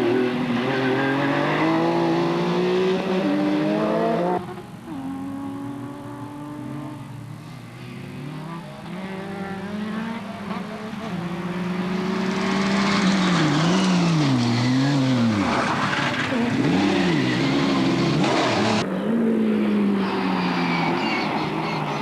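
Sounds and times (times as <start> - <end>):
rally car engine revving: 0.0 - 7.1, 8.1 - 21.3.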